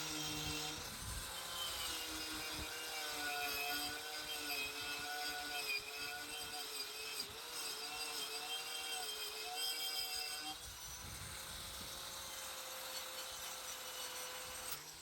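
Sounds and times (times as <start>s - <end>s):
small power tool whirring: 0.0s - 15.0s.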